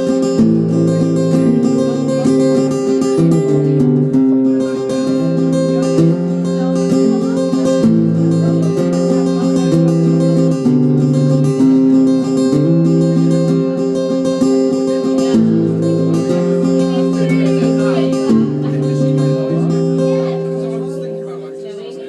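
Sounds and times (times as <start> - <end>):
acoustic guitar strummed: 0.0 - 22.0.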